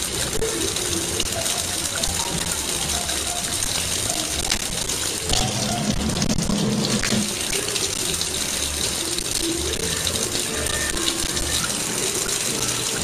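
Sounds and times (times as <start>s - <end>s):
faucet water splashing into sink: 0.0s - 13.0s.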